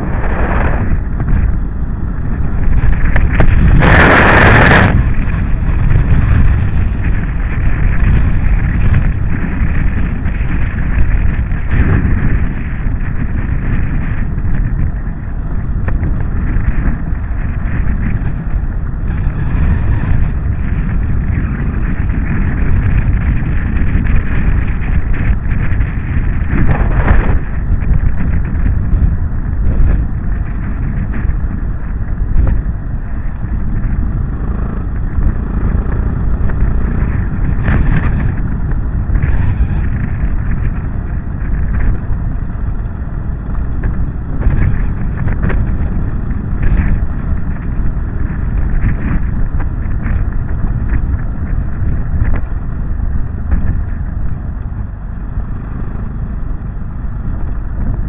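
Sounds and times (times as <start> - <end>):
motorcycle engine rumble: 0.0 - 58.0
wind buffeting microphone: 0.0 - 58.0.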